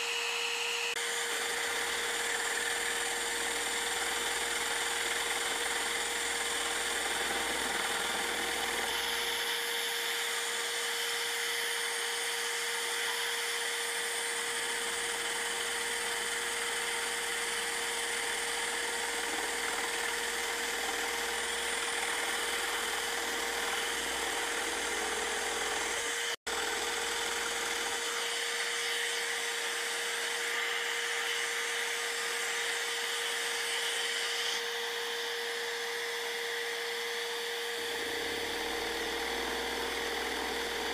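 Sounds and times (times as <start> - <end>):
scroll saw cutting wood: 0.0 - 40.9.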